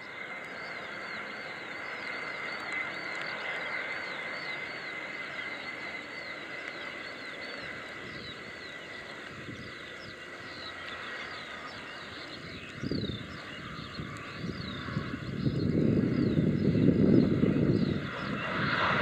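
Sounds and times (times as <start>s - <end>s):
birds chirping: 0.0s - 19.0s
jet engines rushing and whining: 0.0s - 19.0s.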